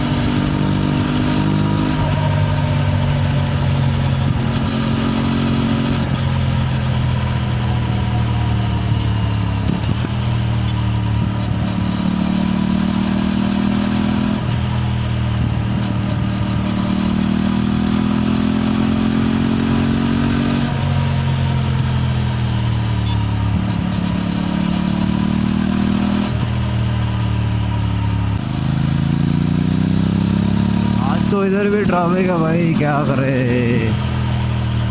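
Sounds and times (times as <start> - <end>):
motorcycle engine shifting gears: 0.0 - 34.9.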